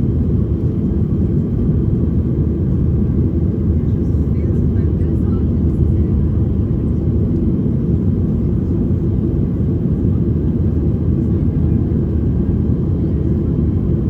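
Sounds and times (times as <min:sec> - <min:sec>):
jet engines rumbling in cabin: 0:00.0 - 0:14.0.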